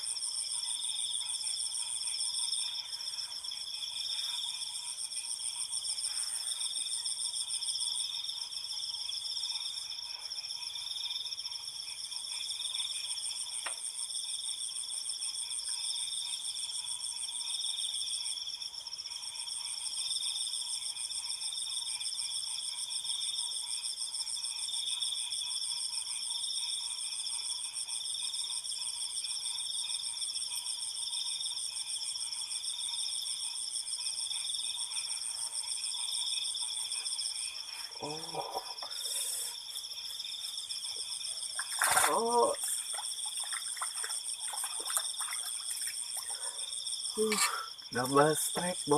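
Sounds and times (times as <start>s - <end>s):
crickets and insects trilling: 0.0s - 48.9s.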